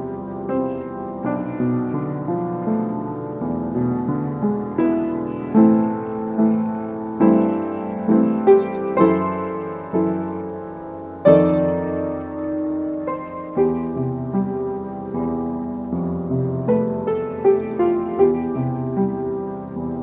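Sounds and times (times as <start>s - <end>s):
slow solo piano piece: 0.0s - 20.0s.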